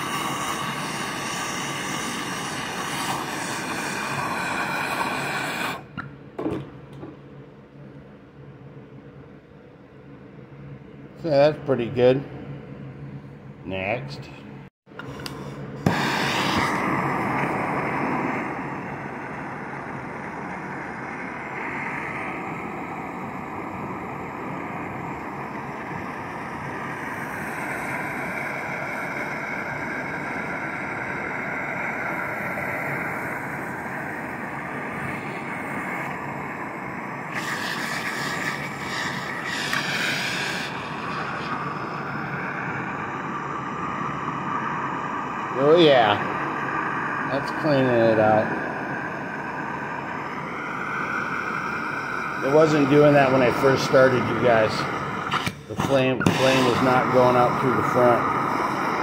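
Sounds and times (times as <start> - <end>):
gas torch flame hissing: 0.0 - 6.1, 15.0 - 59.0.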